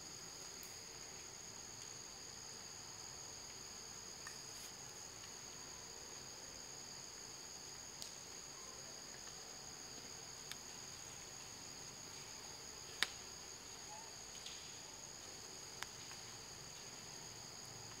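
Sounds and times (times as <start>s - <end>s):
forest insects droning: 0.0s - 18.0s.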